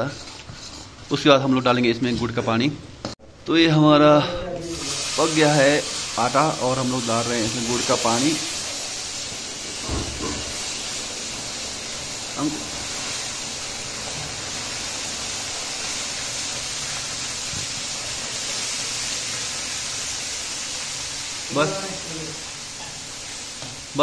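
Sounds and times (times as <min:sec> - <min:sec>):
liquid sizzling in hot wok: 0:04.6 - 0:24.0.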